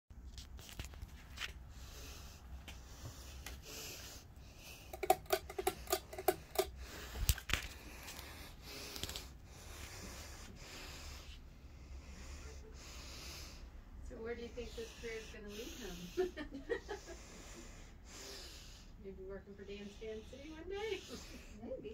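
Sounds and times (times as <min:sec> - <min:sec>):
ceiling fan humming: 0:00.2 - 0:21.9.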